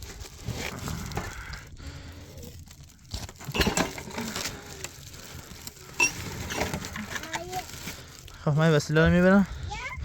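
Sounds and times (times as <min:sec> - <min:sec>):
plastic or cloth rustling: 0:00.0 - 0:09.9.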